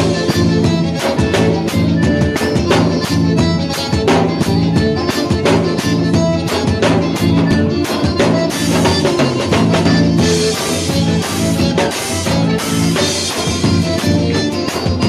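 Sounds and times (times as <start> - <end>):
accordion: 0.0 - 15.0
drum kit beat: 0.0 - 15.0
live band playing: 0.0 - 15.0.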